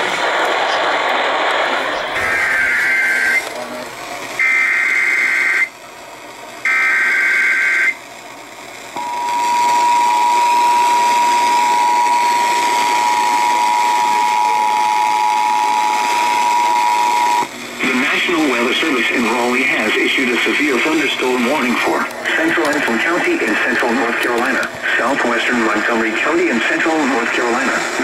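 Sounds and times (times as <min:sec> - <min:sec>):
radio hiss: 0:00.0 - 0:05.7, 0:06.6 - 0:08.0, 0:09.0 - 0:28.0.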